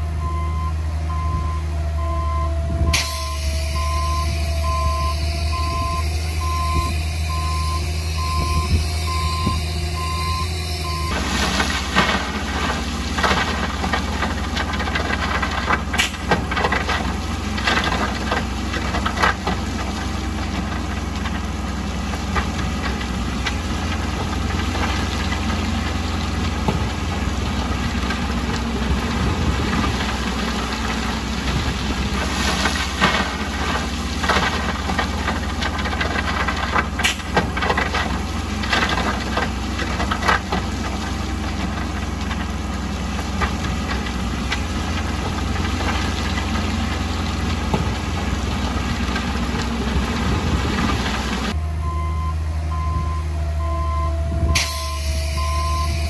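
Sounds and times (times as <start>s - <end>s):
diesel machinery engine running: 0.0s - 56.0s.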